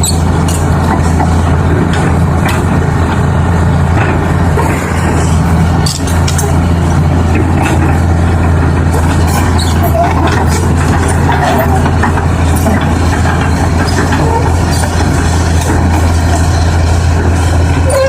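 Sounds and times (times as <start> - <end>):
heavy vehicle engine droning: 0.0 - 18.0.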